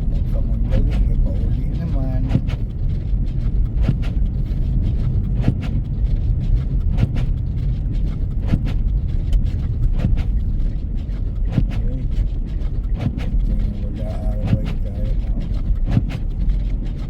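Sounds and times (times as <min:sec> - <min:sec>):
car engine and tyres rumble: 0:00.0 - 0:17.0
short swishes: 0:00.0 - 0:17.0.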